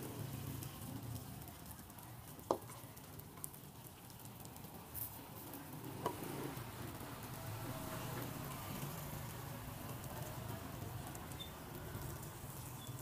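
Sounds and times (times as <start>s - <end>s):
faint sizzling in a pan: 0.0s - 13.0s.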